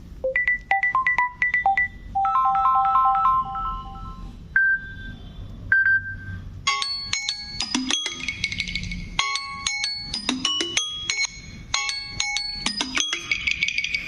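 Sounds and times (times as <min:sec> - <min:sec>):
electronic ringtone melody: 0:00.2 - 0:05.0, 0:05.8 - 0:14.0.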